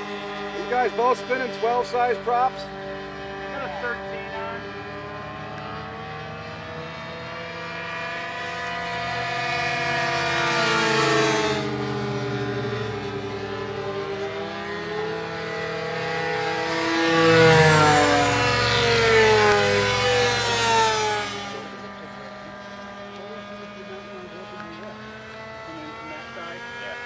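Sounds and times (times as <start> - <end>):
model airplane engines buzzing: 0.0 - 27.0.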